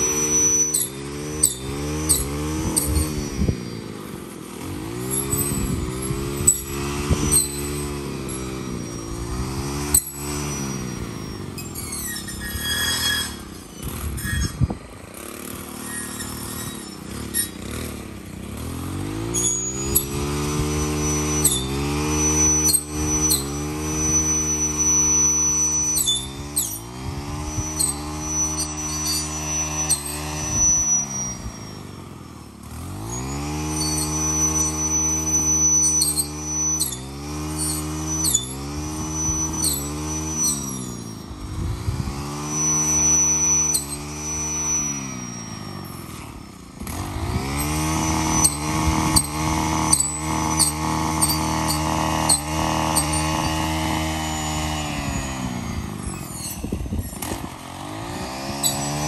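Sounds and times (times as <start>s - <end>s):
small gas engine revving: 0.0s - 59.0s.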